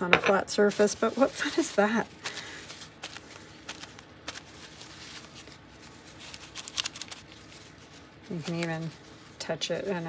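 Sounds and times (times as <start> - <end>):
tissue crinkling and dabbing on paper: 0.5 - 10.0
paper rustling: 0.6 - 10.0.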